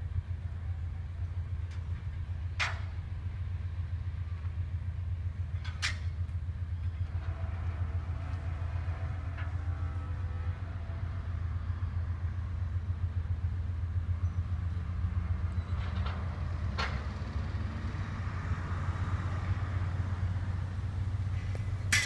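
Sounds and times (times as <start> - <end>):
distant diesel train rumble: 0.0 - 22.0.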